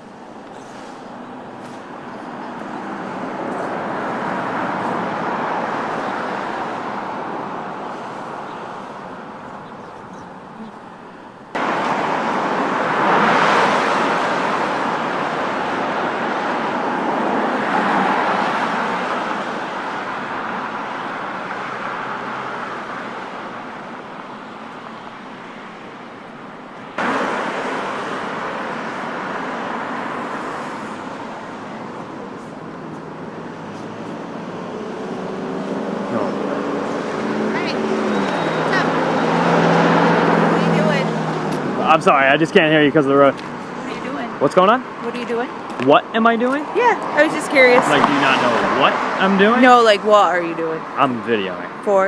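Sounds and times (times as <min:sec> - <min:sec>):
cars passing by: 0:00.0 - 0:52.0.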